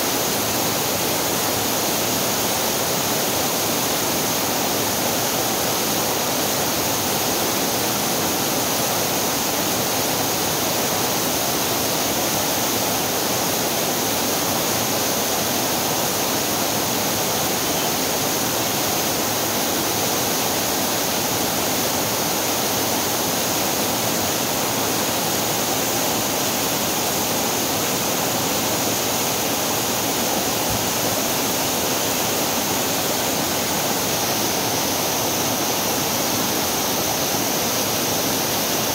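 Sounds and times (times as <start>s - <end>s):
waterfall rushing water: 0.0s - 38.9s.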